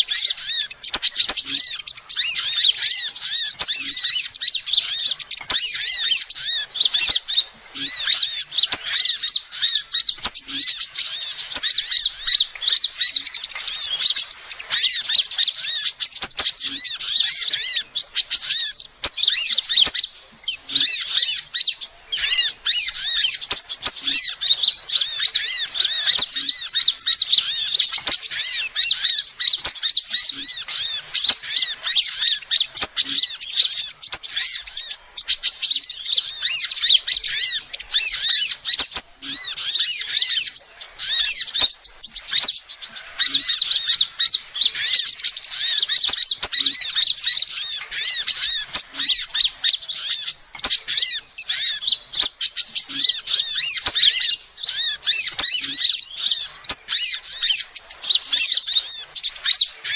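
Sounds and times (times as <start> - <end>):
bird chirping rapidly: 0.0 - 59.9.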